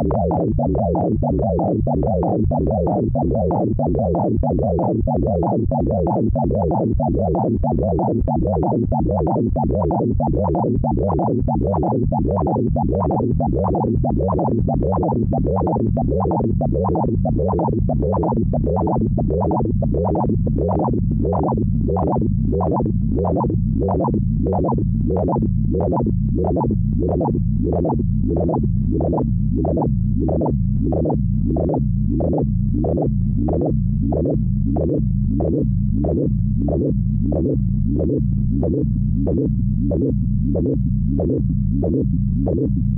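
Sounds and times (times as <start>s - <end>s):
pulsing high synthesized tones: 0.0s - 42.0s
low synthesized drone: 0.0s - 42.9s.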